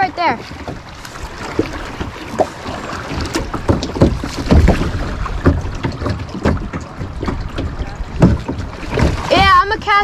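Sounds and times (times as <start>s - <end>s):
water splashing around kayak hull: 0.0s - 10.0s
knocks and bumps on kayak: 0.4s - 10.0s.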